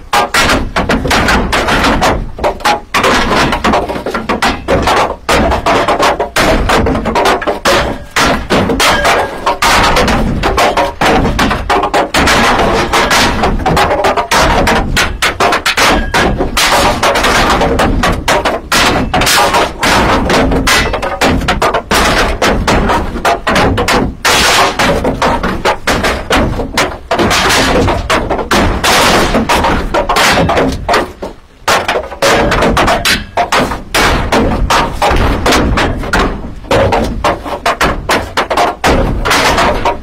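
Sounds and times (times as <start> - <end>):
rapid bangs and knocks: 0.0 - 40.0.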